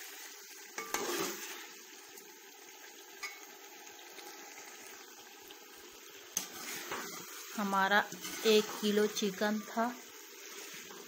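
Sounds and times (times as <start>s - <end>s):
chicken sizzling and bubbling in oil: 0.0s - 11.0s.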